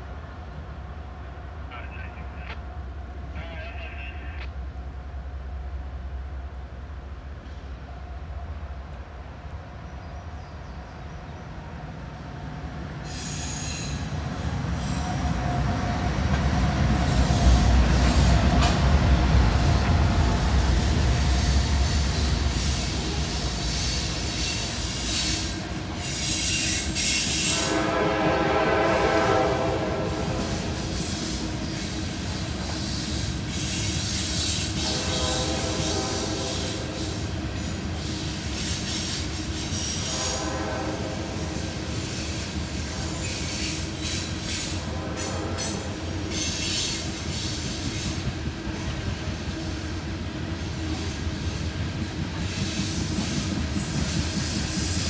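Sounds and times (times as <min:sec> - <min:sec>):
diesel locomotive engine rumble: 0:00.0 - 0:55.0
freight cars rumbling on rails: 0:00.0 - 0:55.0.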